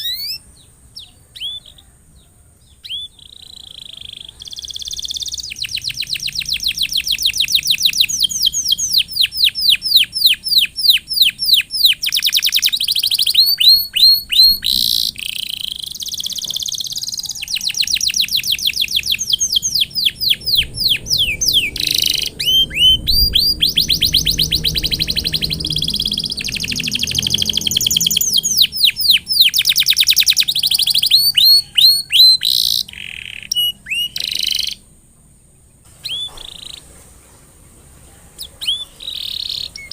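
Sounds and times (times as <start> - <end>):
canary singing trills: 0.0 - 37.0, 38.4 - 39.9.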